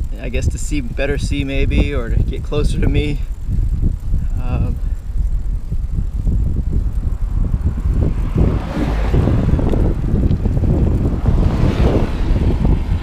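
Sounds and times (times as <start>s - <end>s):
trike rolling on paved road: 0.0s - 13.0s
wind buffeting microphone: 0.0s - 13.0s.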